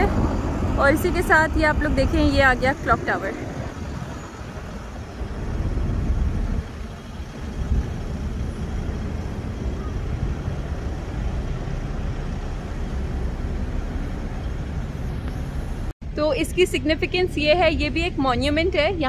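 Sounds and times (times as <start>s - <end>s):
city road traffic rumble: 0.0s - 19.0s.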